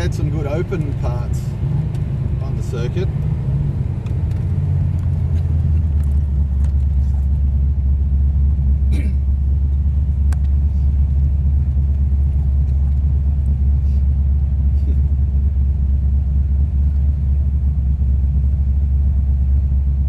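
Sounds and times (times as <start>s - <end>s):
car engine drone from inside cabin: 0.0s - 20.0s.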